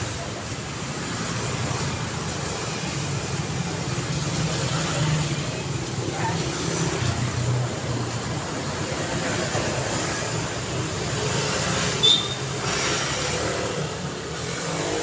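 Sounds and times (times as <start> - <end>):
cars and motorbikes passing: 0.0 - 15.0.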